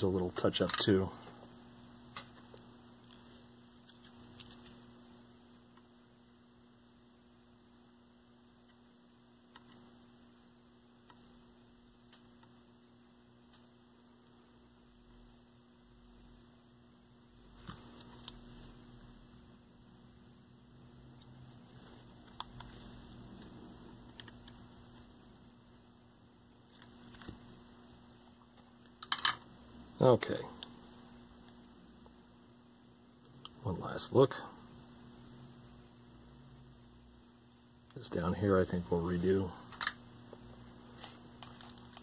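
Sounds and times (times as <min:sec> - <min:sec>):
faint electrical mains hum: 0:00.0 - 0:42.0.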